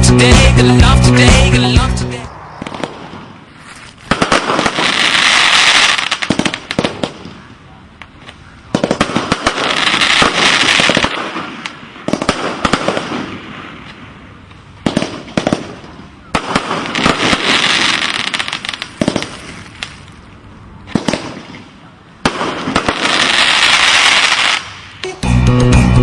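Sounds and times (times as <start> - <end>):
fireworks crackling: 0.4 - 7.4, 8.0 - 25.1
fireworks bangs: 1.2 - 20.2, 20.8 - 25.0.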